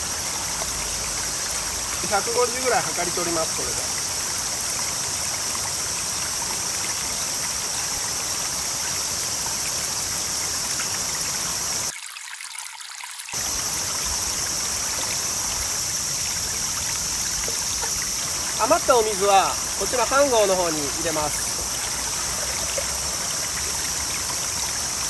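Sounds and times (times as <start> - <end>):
high-pitched insect buzz: 0.0 - 11.9, 13.4 - 25.0
stream flowing over rocks: 0.0 - 25.0.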